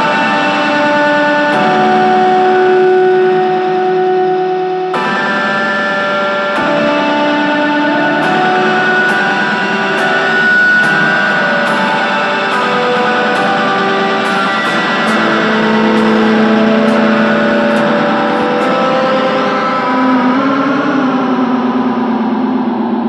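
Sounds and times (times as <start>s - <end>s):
electric guitar with delay echoes: 0.0s - 23.0s.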